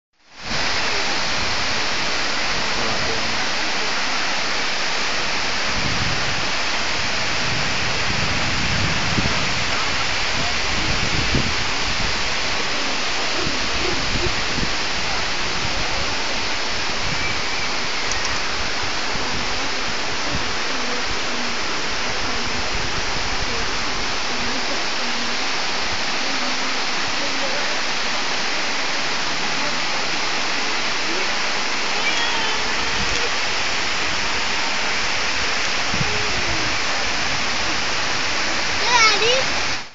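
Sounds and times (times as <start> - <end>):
waterfall rushing: 0.2 - 39.9.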